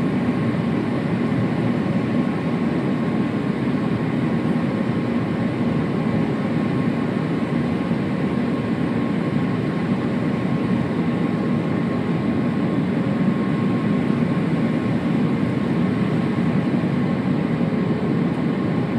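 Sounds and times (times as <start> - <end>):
airliner cabin engine rush: 0.0 - 18.9.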